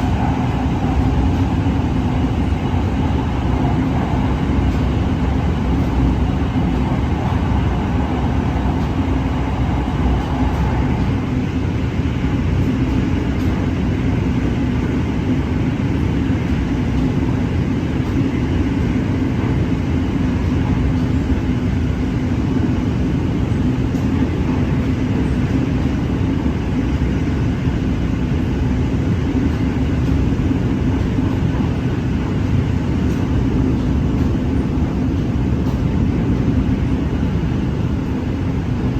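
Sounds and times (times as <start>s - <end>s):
train hum: 0.0s - 38.9s
train wheels rumbling on rail: 0.0s - 38.9s.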